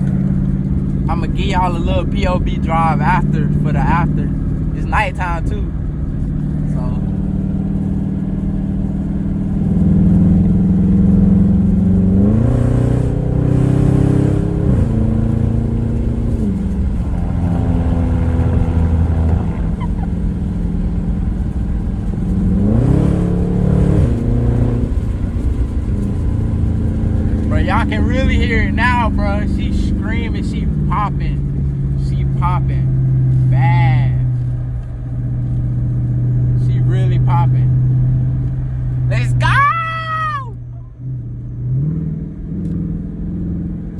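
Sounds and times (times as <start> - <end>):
loud car exhaust: 0.0 - 43.9.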